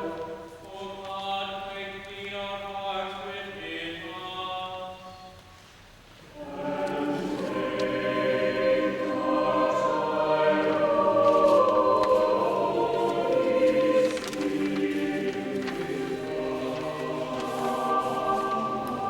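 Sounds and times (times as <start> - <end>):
choir singing in a cathedral: 0.0 - 19.0.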